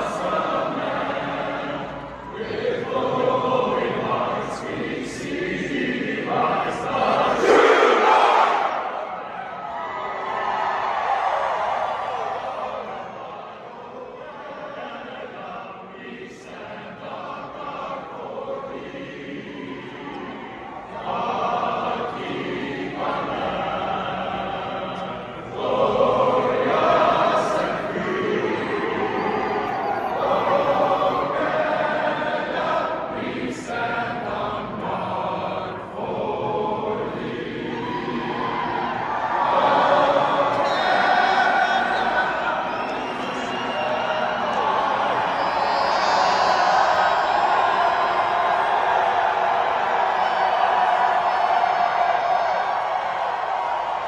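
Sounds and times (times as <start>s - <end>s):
arena crowd singing an anthem: 0.0s - 54.0s.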